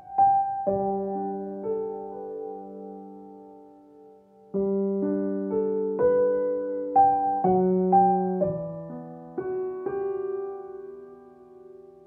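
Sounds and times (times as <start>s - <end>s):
calm solo piano: 0.0s - 12.0s.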